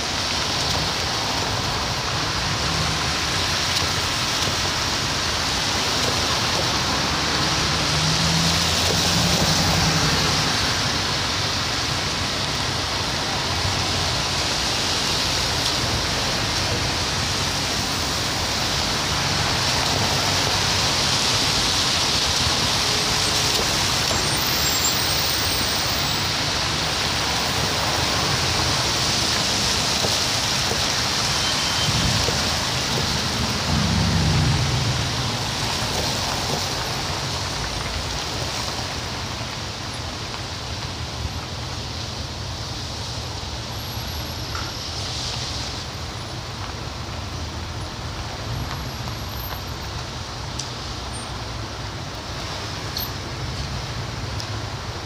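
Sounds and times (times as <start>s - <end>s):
traffic engine rumble: 0.0s - 55.0s
tyres hissing on wet asphalt: 0.0s - 55.0s.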